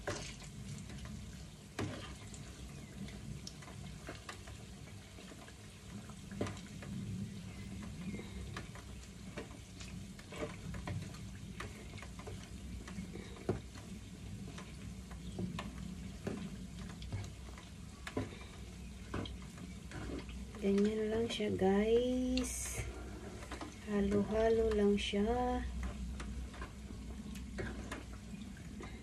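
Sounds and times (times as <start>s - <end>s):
food frying and bubbling: 0.0s - 29.0s.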